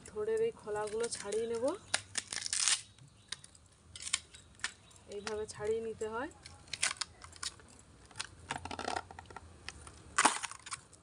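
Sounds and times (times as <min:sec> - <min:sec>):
banana stem sheaths peeled: 0:00.8 - 0:05.5, 0:06.4 - 0:11.0.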